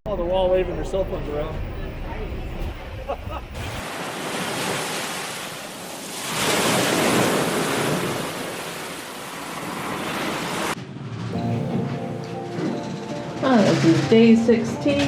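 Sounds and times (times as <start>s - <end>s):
rushing wind and sea water: 0.3s - 15.0s.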